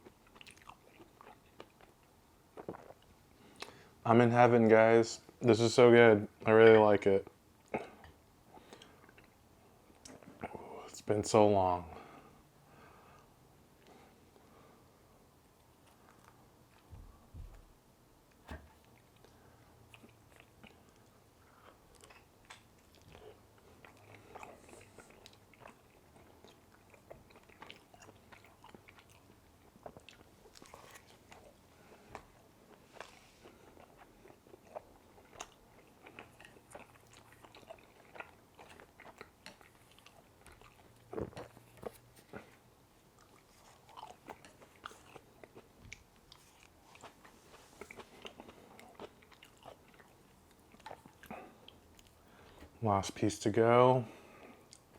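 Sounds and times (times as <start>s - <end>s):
soft wet chewing: 0.0s - 4.0s, 7.2s - 11.0s, 12.0s - 17.6s, 18.2s - 52.8s, 54.0s - 54.9s.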